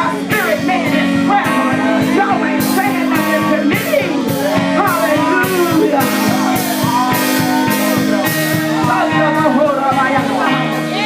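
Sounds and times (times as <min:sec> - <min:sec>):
drum beat: 0:00.0 - 0:11.0
keyboard chords: 0:00.0 - 0:11.0
person singing: 0:00.0 - 0:11.0.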